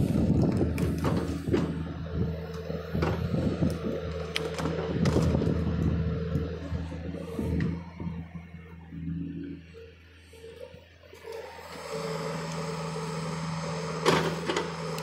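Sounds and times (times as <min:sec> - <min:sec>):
excavator diesel engine: 0:00.0 - 0:15.0.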